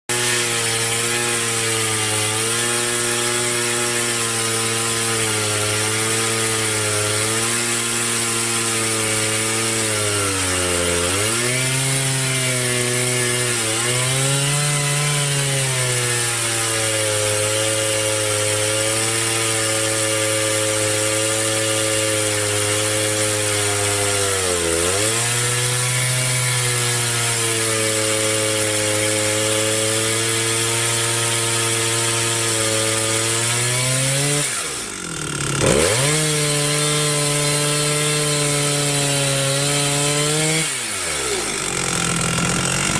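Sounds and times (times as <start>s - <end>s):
chainsaw cutting through log: 0.0s - 42.9s.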